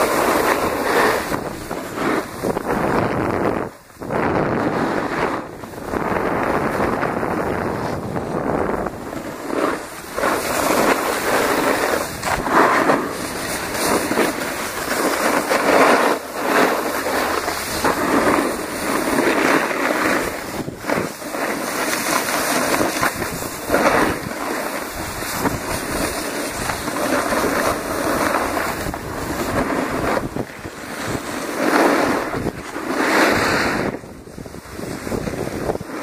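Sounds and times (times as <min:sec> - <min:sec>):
snowboards scraping on snow: 0:00.0 - 0:36.0
wind on microphone: 0:00.0 - 0:36.0.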